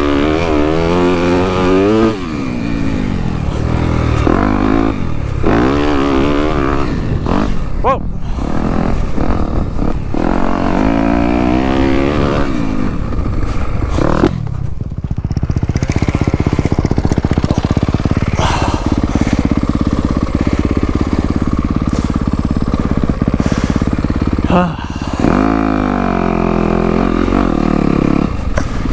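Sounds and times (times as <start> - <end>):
dirt bike engine: 0.0 - 28.9.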